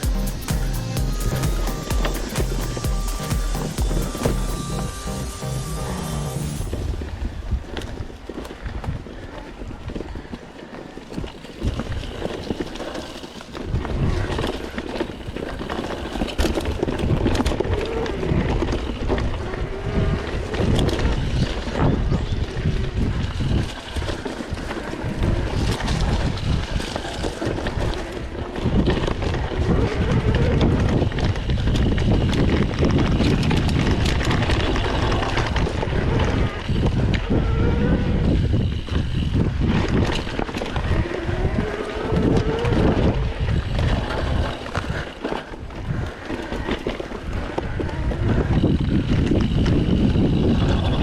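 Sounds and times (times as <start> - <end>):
wind buffeting microphone: 6.6 - 51.0
bike rattling and knocking: 7.6 - 37.6, 38.2 - 51.0.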